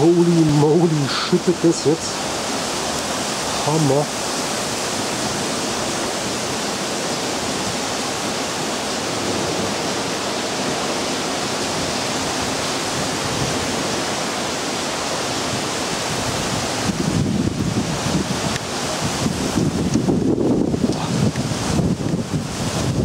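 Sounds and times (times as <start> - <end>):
heavy rain hiss: 0.0 - 23.0.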